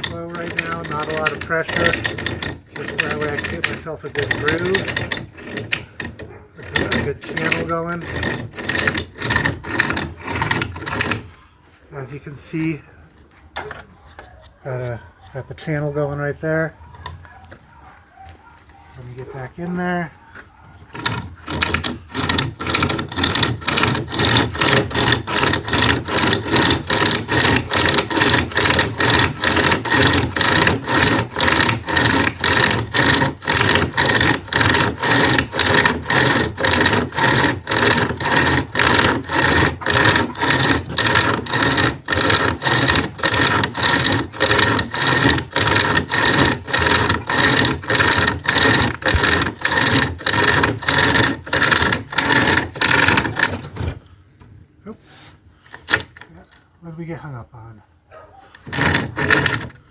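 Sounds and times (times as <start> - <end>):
chain saw rasping through wood: 0.0 - 54.2, 55.0 - 56.3, 58.1 - 59.9.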